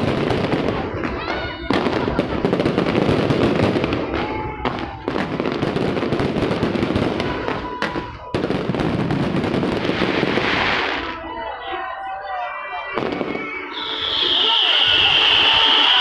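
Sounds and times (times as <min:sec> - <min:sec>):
fireworks banging and crackling: 0:00.0 - 0:11.5, 0:12.9 - 0:16.0.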